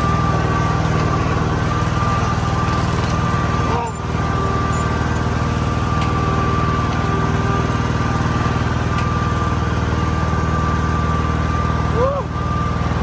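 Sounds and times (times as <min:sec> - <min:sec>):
lawn mower engine running: 0:00.0 - 0:13.0
thin steady whine: 0:00.0 - 0:13.0.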